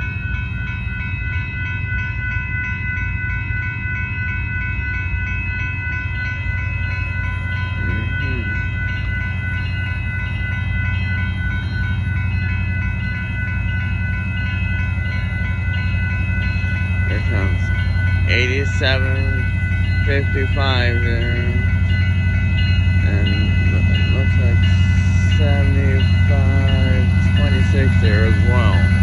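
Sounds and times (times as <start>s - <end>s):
diesel locomotive rumble: 0.0s - 29.0s
railroad crossing bell ringing: 0.0s - 29.0s.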